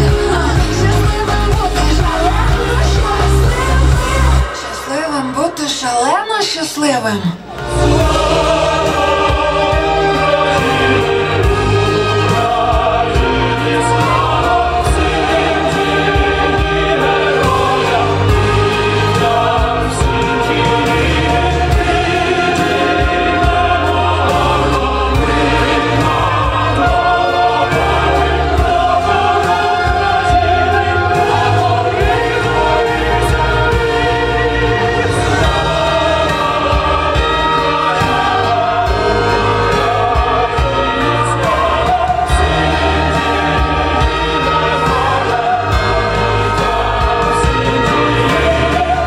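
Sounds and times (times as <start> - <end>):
steady bass line: 0.0 - 4.4, 7.6 - 49.0
choir singing dance music: 0.0 - 49.0.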